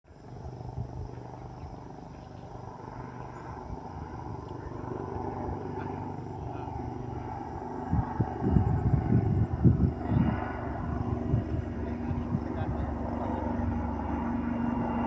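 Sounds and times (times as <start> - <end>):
helicopter rotor and engine: 0.1 - 15.0.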